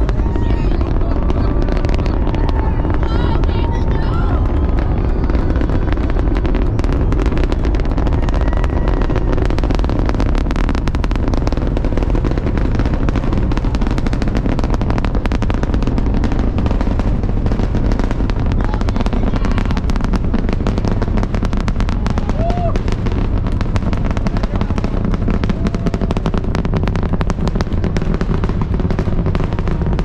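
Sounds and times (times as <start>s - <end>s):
rocket engine roar with crackling: 0.0s - 30.0s.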